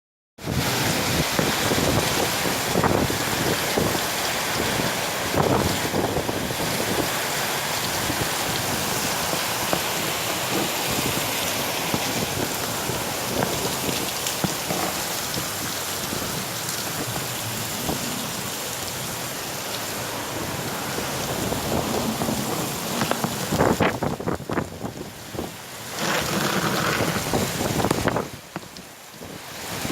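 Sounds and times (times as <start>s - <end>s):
driving rain: 0.4s - 29.9s
wind gusts: 0.4s - 29.9s.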